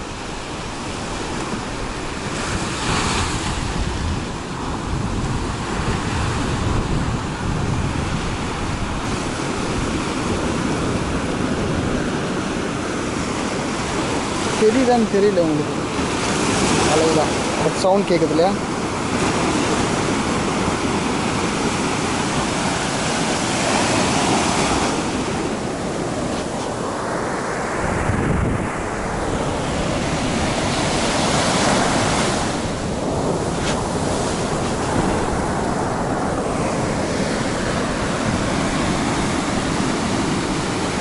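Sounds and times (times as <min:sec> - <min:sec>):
sea surf breaking on shore: 0:00.0 - 0:41.0
wind rumbling on microphone: 0:00.0 - 0:41.0.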